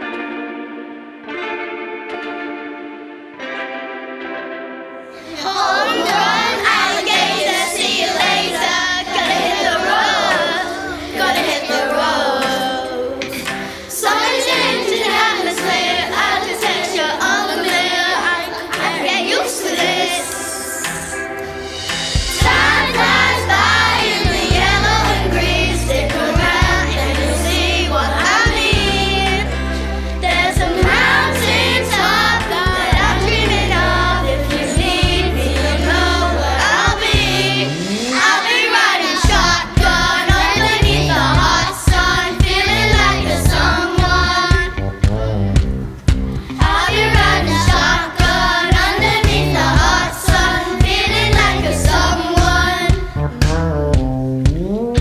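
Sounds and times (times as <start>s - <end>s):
backing music: 0.0s - 55.0s
voices singing pop song: 5.2s - 53.7s.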